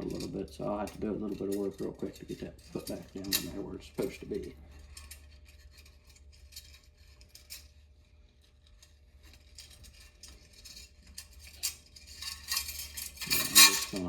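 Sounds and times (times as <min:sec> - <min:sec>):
metallic clicks and scrapes: 0:00.0 - 0:14.0
steady low hum: 0:00.0 - 0:14.0.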